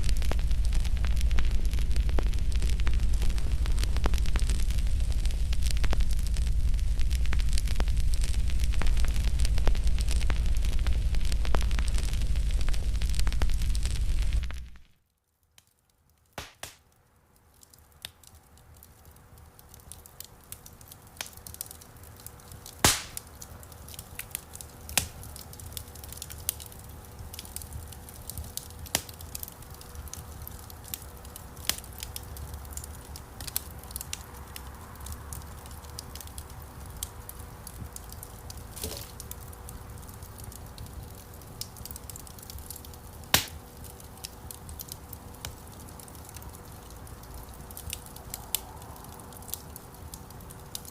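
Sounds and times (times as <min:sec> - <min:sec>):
campfire crackling and popping: 0:00.0 - 0:15.0, 0:15.6 - 0:50.9.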